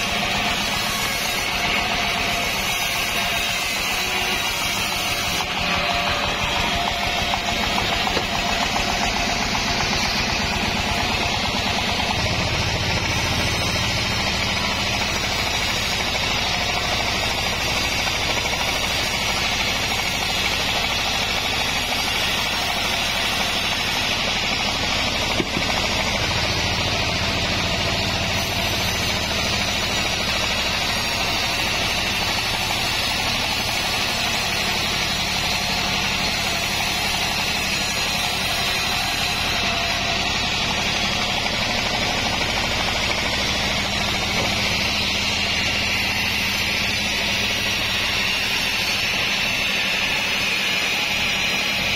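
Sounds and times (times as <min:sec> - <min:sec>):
bandsaw mill cutting log: 0:00.0 - 0:51.9.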